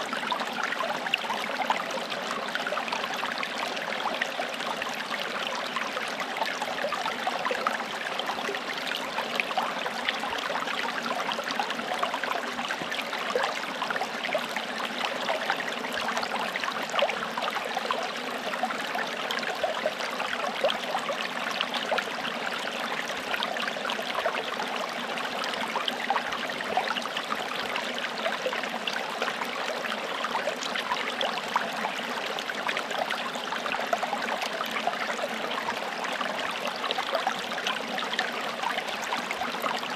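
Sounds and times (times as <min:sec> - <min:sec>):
stream babbling over stones: 0:00.1 - 0:39.9.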